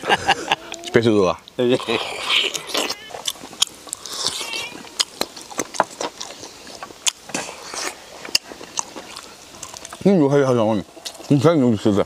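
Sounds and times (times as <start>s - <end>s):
wet chewing and biting: 0.7s - 10.2s, 10.8s - 11.4s.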